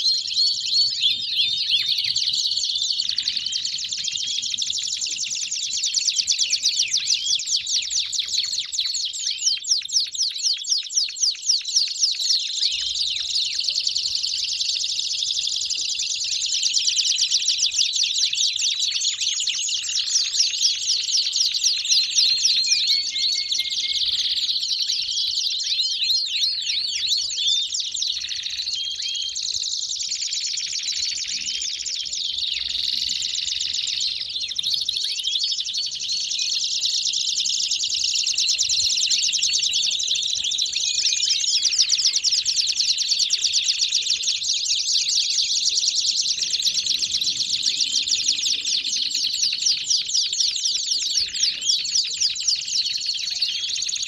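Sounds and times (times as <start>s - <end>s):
canaries singing: 0.0s - 54.0s.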